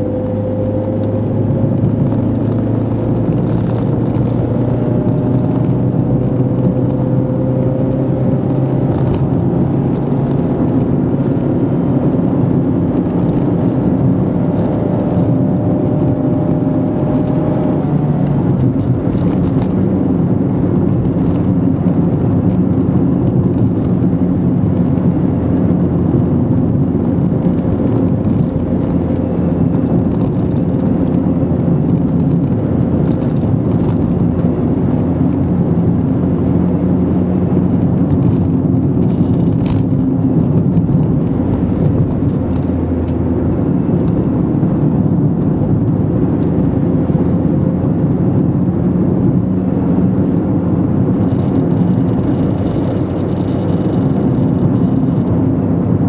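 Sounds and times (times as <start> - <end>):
car engine hum: 0.0 - 56.0
road noise: 0.0 - 56.0.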